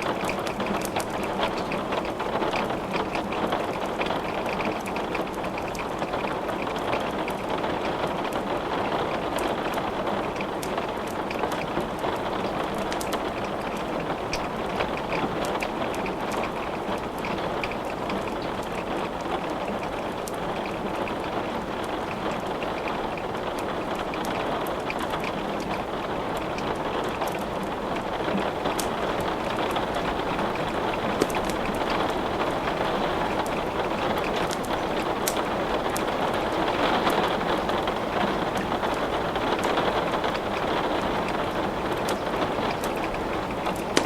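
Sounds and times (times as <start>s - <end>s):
steady rain: 0.0s - 44.0s
wood crackling in fireplace: 0.0s - 44.0s.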